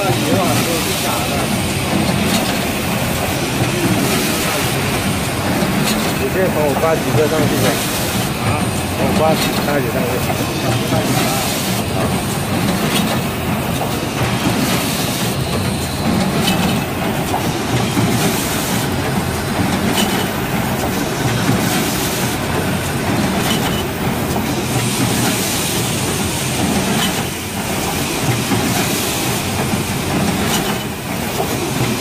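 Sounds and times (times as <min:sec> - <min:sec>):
packing machine clattering: 0:00.0 - 0:32.0.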